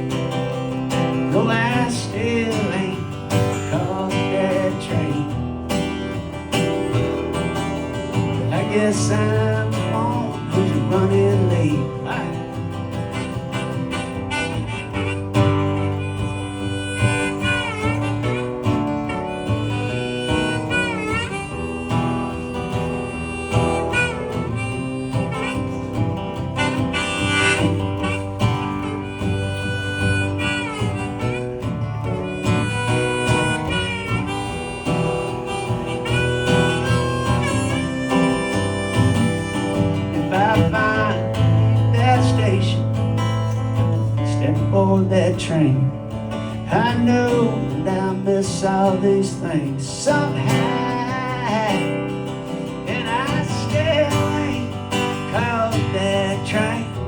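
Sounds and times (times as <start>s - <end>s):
harmonica solo with bending notes: 0.0s - 45.4s, 46.1s - 57.0s
acoustic guitar accompaniment: 0.0s - 57.0s.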